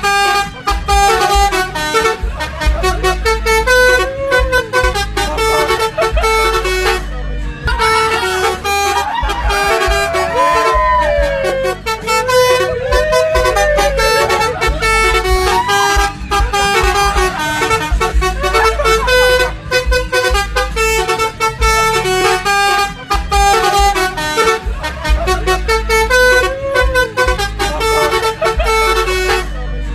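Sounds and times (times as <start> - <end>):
multi-tone air horn tune: 0.0 - 29.9.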